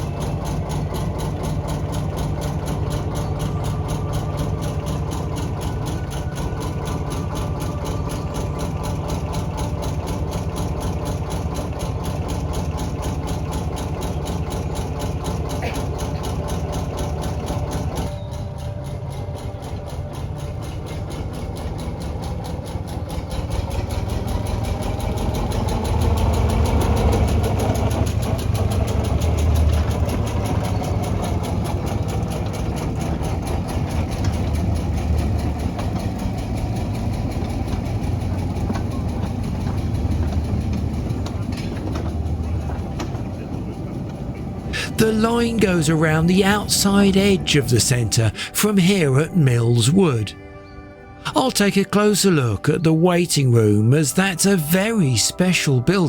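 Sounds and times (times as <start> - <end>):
locomotive engine chugging: 0.0 - 50.3.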